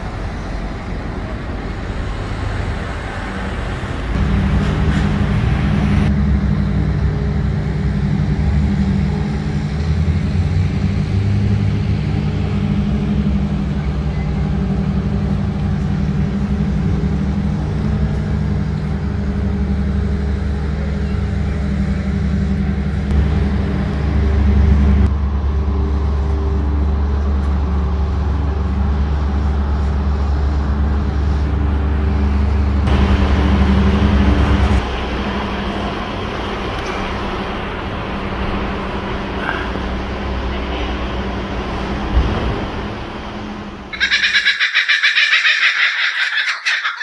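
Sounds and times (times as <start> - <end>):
vehicle engine running close: 0.0 - 44.7
general traffic noise: 0.0 - 47.0.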